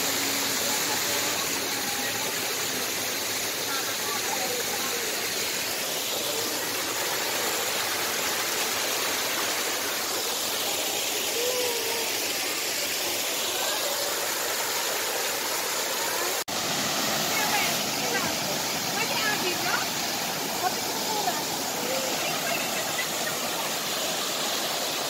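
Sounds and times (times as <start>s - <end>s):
waterfall rushing over rocks: 0.0s - 25.0s.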